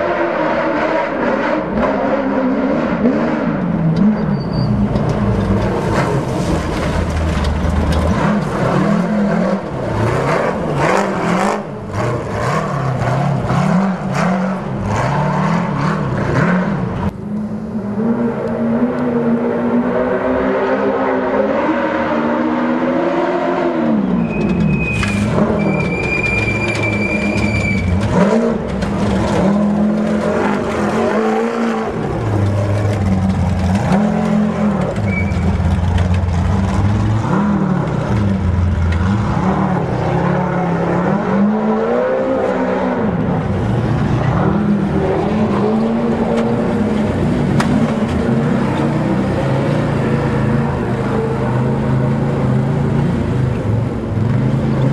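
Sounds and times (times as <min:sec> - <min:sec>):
buggy engines revving: 0:00.0 - 0:54.9.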